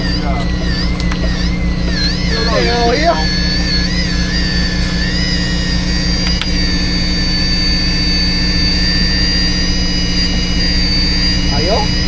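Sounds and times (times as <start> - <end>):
boat engine humming: 0.0 - 12.0
thin high whine: 0.0 - 12.0
short clicks: 0.4 - 2.5, 3.3 - 12.0.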